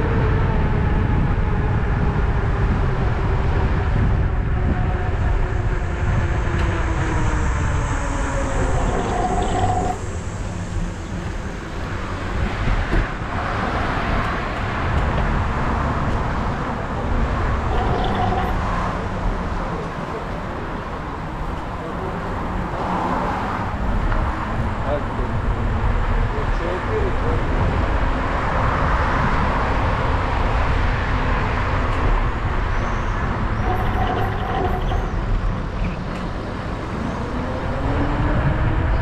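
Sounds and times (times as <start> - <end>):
wind buffeting: 0.0 - 19.8, 27.4 - 39.0.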